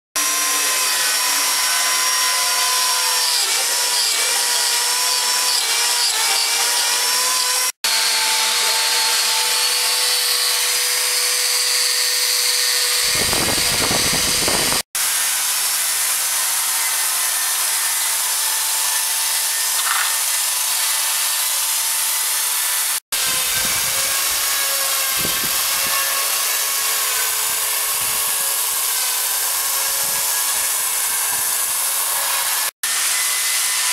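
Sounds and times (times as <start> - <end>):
power tool motor whining: 0.2 - 33.9.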